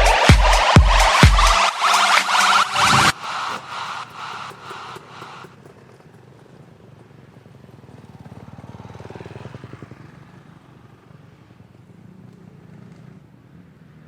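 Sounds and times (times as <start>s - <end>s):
motorcycle engine passing: 0.0s - 14.0s.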